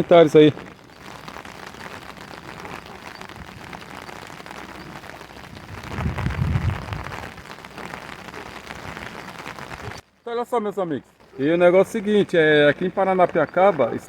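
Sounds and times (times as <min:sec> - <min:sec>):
heavy rain falling: 0:00.0 - 0:10.0, 0:11.2 - 0:14.0.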